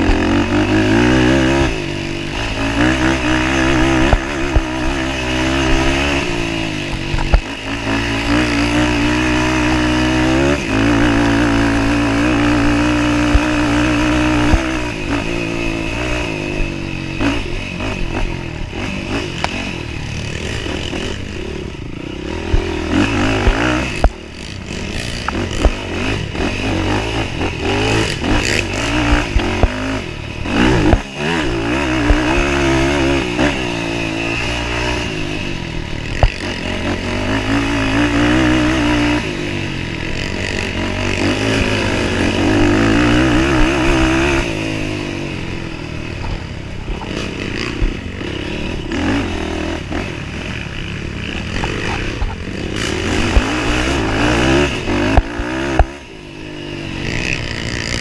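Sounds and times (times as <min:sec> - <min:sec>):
atv engine racing: 0:00.0 - 0:58.0.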